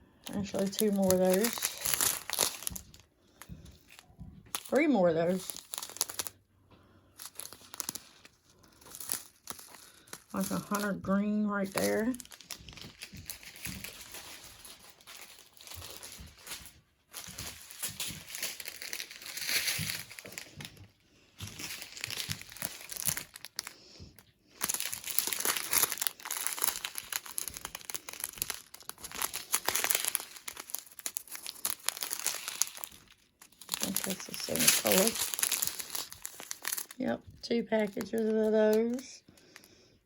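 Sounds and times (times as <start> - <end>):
plastic packets crinkling: 0.0 - 40.0.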